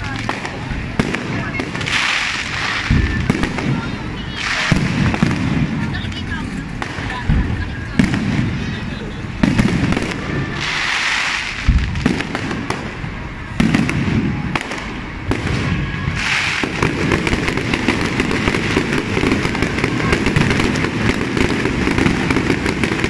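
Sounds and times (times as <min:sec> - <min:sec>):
firework bangs: 0:00.0 - 0:23.0
firework crackling: 0:00.0 - 0:23.0.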